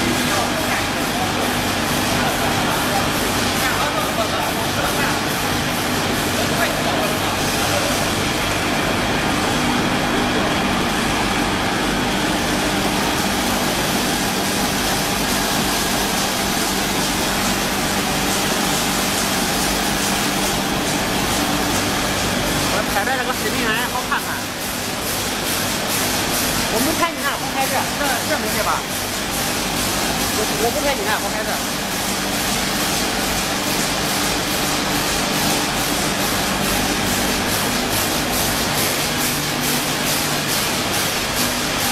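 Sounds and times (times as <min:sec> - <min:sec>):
machine motor hum: 0:00.0 - 0:41.9.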